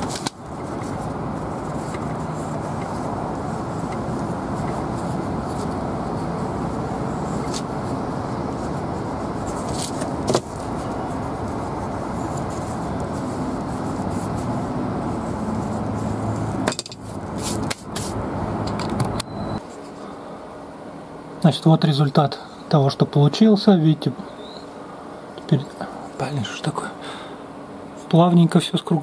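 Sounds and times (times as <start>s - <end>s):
low rumbling background noise: 0.0s - 29.0s.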